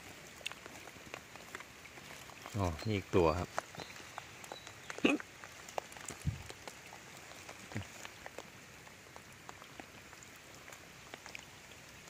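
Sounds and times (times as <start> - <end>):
raindrops tapping: 0.0 - 12.0
steady rain patter: 0.0 - 12.0.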